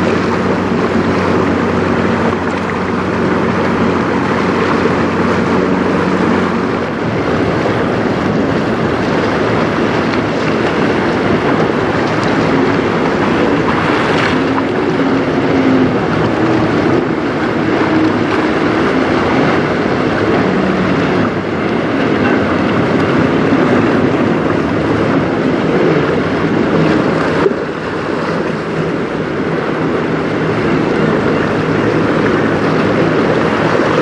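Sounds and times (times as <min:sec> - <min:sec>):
choppy river water: 0:00.0 - 0:34.0
low engine drone: 0:00.0 - 0:34.0
wind on microphone: 0:00.0 - 0:34.0.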